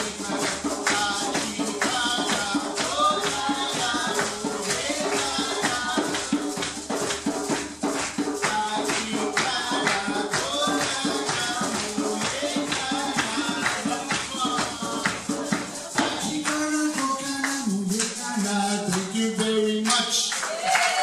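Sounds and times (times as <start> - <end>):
drum strokes: 0.0 - 19.6
shaker rattling: 0.0 - 21.0.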